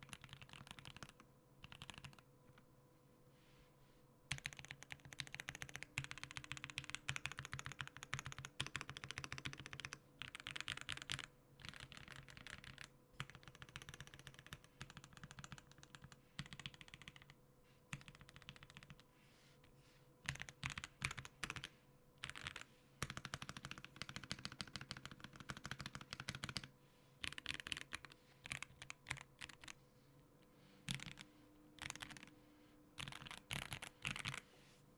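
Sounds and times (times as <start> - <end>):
mechanical keyboard typing: 0.0 - 2.6, 4.3 - 17.3, 17.9 - 19.0, 20.2 - 29.7, 30.9 - 31.2, 31.8 - 32.3, 33.0 - 34.4.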